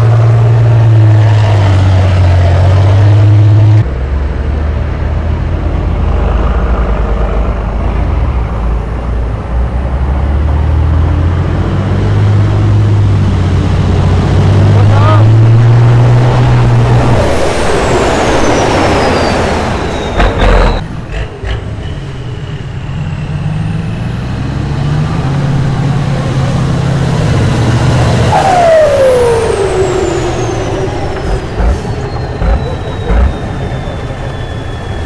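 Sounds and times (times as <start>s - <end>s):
truck engine running hard: 0.0s - 35.0s.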